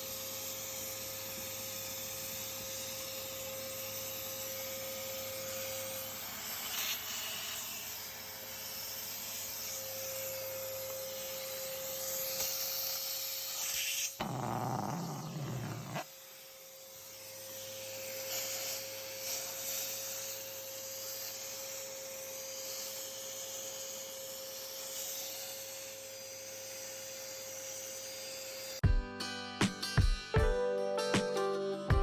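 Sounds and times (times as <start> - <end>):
vacuum cleaner motor whine: 0.0 - 28.8.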